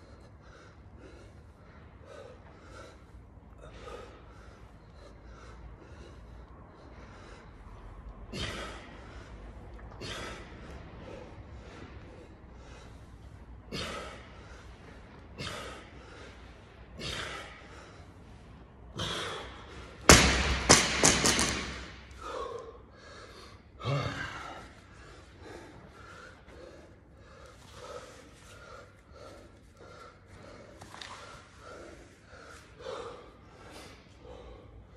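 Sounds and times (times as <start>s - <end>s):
person breathing hard: 0.0s - 34.9s.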